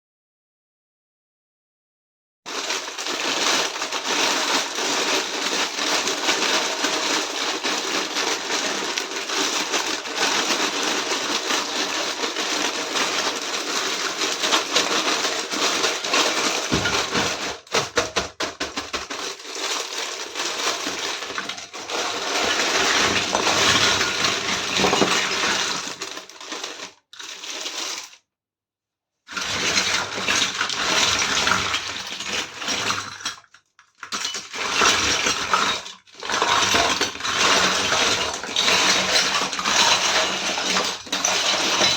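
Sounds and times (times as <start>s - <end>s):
toy kitchen set rustling and clinking: 2.5s - 28.2s, 29.3s - 41.9s.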